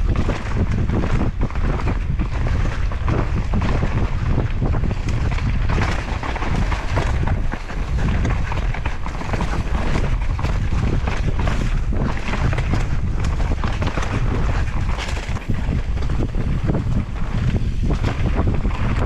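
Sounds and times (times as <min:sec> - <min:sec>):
bike clicking and rattling: 0:00.0 - 0:19.0
wind rushing over microphone: 0:00.0 - 0:19.0.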